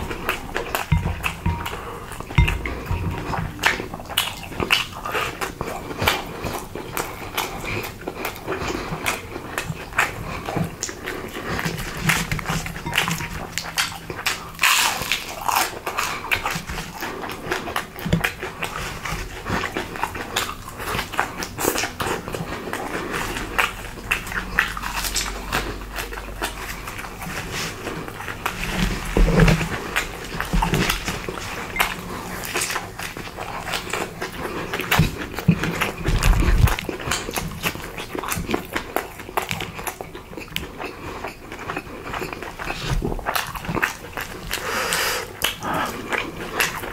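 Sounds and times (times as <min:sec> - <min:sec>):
chewing and crunching food: 0:00.0 - 0:46.9.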